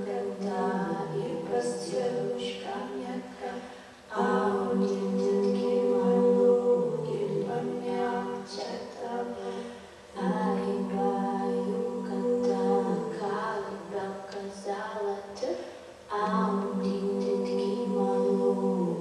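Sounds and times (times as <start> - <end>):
women singing a cappella: 0.0 - 19.0.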